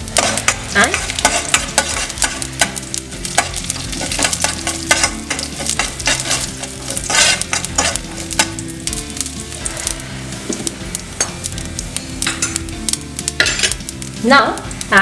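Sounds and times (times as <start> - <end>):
seeds popping: 0.0 - 15.0
seeds sizzling in hot oil: 0.0 - 15.0.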